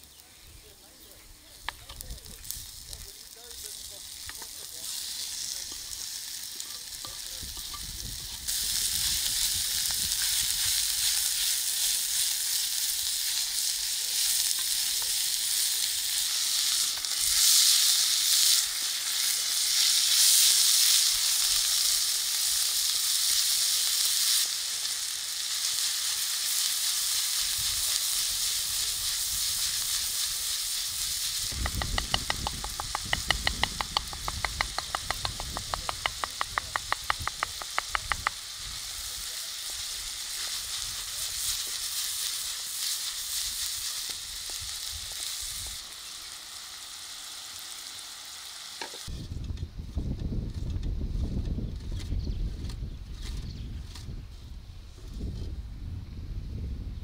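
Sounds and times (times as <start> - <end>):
meat sizzling in a frying pan: 1.5 - 49.1.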